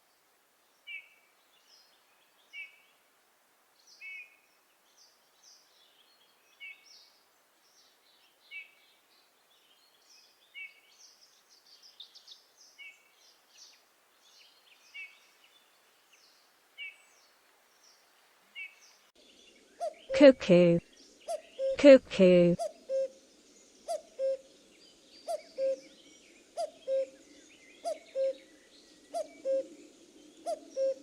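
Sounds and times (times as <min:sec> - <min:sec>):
faint outdoor hiss: 0:00.0 - 0:31.0.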